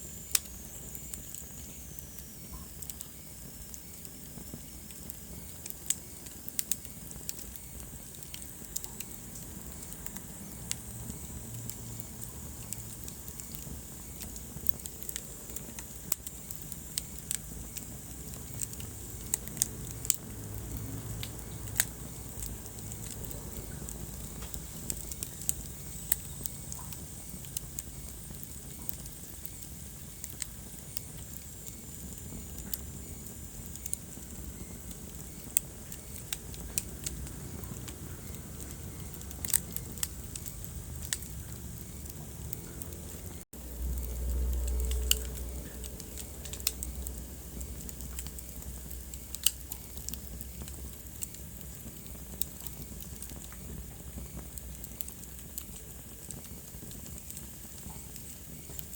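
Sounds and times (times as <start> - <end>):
rumble of fire flames: 0.0 - 58.9
logs popping and crackling: 0.2 - 58.9.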